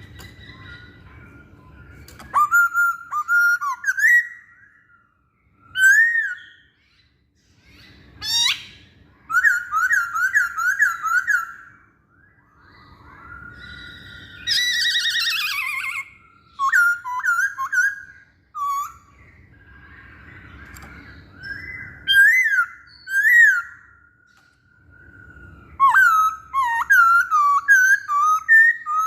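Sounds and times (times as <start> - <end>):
bird singing whistled phrases: 0.0 - 29.0.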